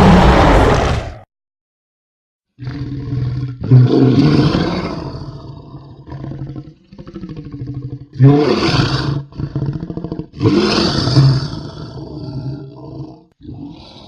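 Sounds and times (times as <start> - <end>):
loud creature roars: 0.0 - 1.2, 2.6 - 14.0.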